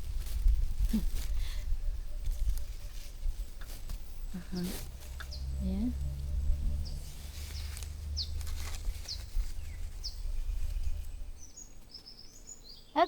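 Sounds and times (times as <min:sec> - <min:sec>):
low rumble: 0:00.0 - 0:11.5
bird chirping: 0:02.0 - 0:13.0.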